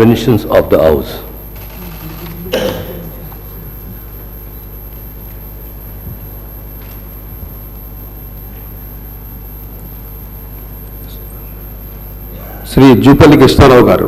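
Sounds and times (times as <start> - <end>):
low electrical hum: 0.0 - 14.0
room noise: 0.0 - 14.0.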